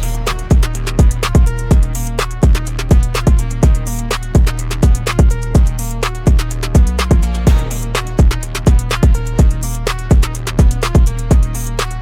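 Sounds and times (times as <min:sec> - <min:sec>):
electronic music with kick drum beat: 0:00.0 - 0:12.0.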